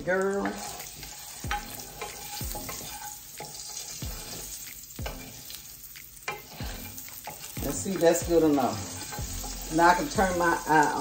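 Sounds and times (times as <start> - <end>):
pork sizzling in grease: 0.0 - 11.0
wooden spoon stirring: 0.3 - 11.0.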